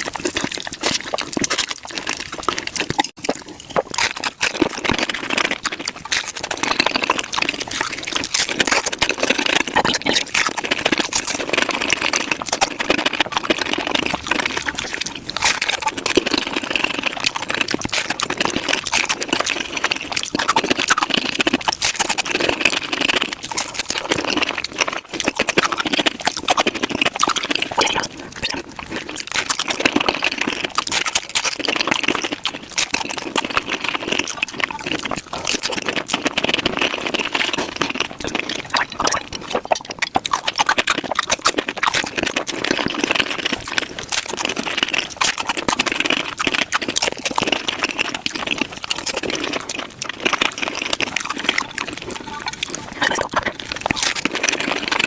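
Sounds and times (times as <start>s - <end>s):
rapid crunching while eating: 0.0s - 55.0s
wet mouth clicks: 0.0s - 55.0s.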